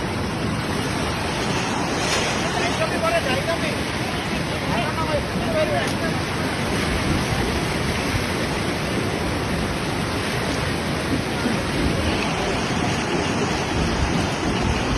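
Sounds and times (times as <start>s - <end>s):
floodwater rushing: 0.0s - 14.9s.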